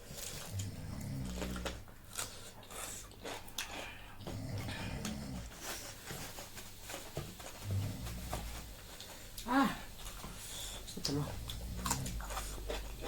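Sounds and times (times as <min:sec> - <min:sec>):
food chewing: 0:00.0 - 0:13.0.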